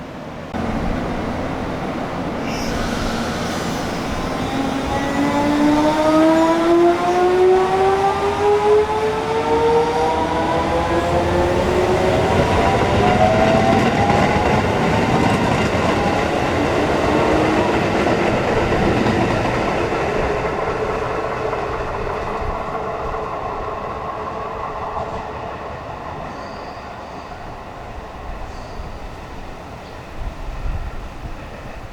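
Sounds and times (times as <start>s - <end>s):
electric train inverter whining: 0.6s - 27.5s.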